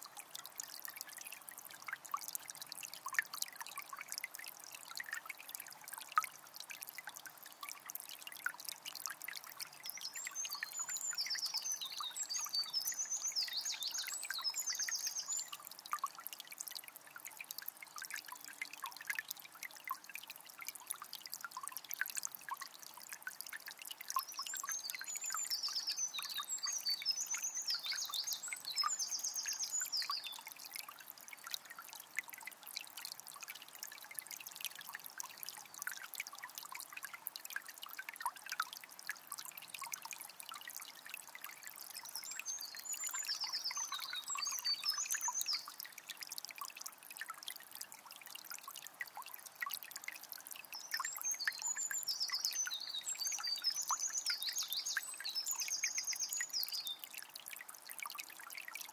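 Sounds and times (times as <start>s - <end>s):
river flowing and trickling: 0.0s - 58.9s.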